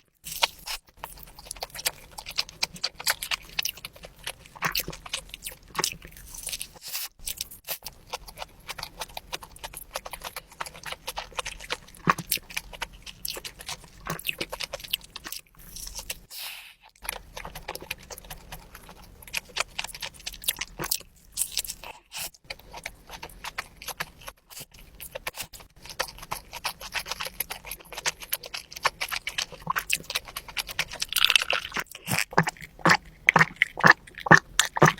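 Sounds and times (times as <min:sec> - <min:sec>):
wet chewing mouth sounds: 0:00.0 - 0:34.9.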